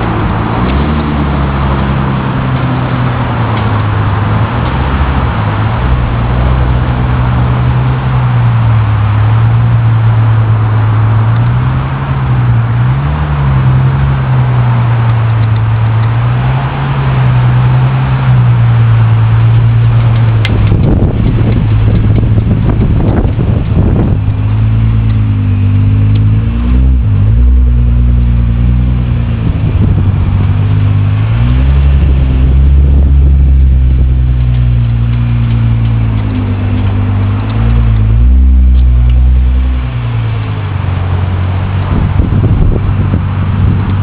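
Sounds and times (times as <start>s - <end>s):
car engine droning: 0.0s - 44.0s.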